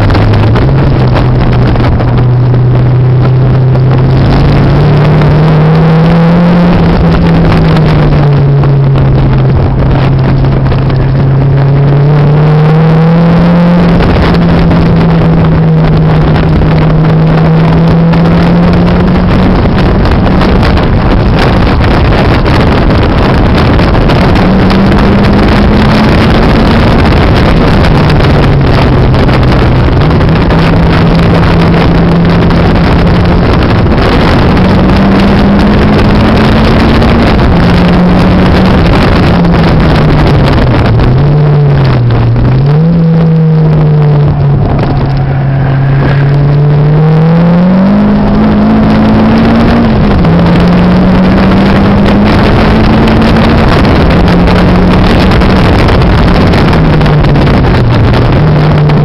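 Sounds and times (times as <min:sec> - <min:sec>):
car engine revving through gears: 0:00.0 - 0:59.0
wind and road noise: 0:00.0 - 0:59.0.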